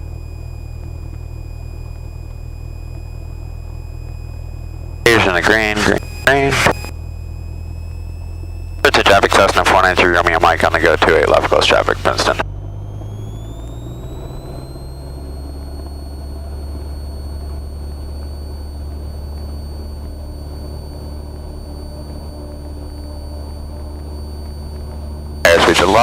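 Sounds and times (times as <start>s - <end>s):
aircraft engine drone: 0.0s - 26.0s
engine high whine: 0.0s - 26.0s.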